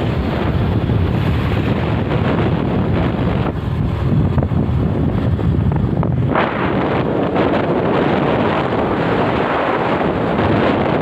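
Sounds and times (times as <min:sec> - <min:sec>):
wind rumble on motorbike: 0:00.0 - 0:11.0.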